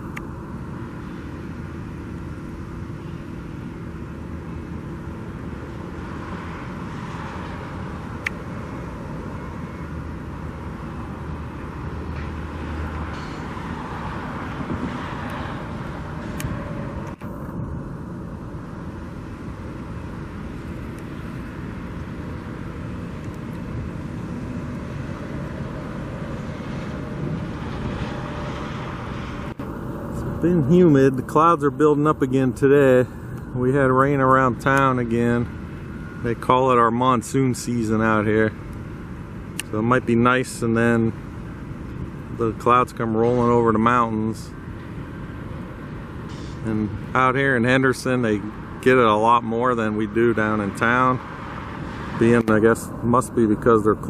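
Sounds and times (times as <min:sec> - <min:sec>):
distant vehicles rumbling: 0:00.0 - 0:54.0
low hum: 0:00.0 - 0:54.0.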